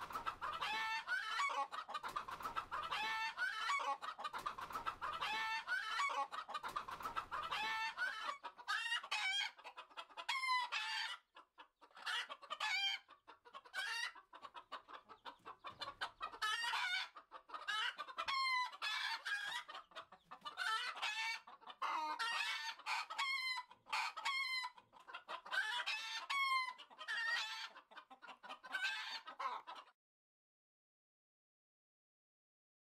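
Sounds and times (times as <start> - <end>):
chickens clucking and calling: 0.0 - 30.0.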